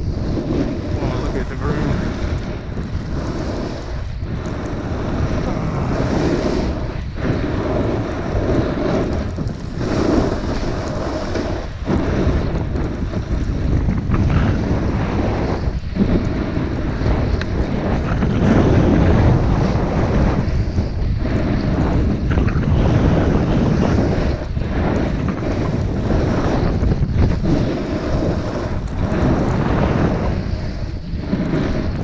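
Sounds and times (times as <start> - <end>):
snow hissing under skis: 0.0 - 32.0
wind rushing over microphone: 0.0 - 32.0.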